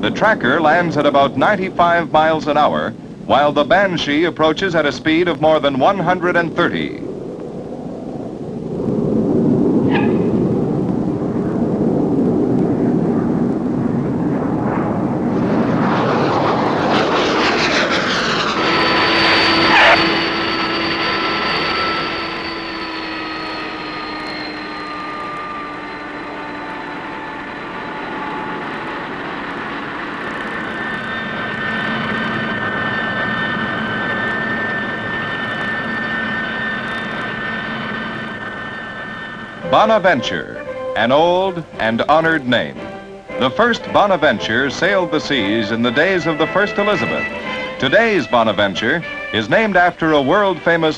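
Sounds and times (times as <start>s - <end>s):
jet engine rush: 0.0s - 50.9s
jet engine whine: 0.0s - 50.9s.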